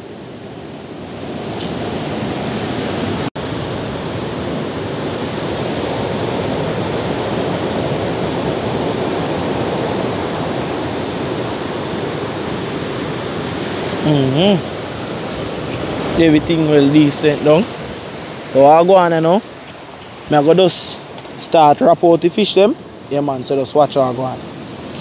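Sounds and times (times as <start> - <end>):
water rushing: 0.0 - 25.0.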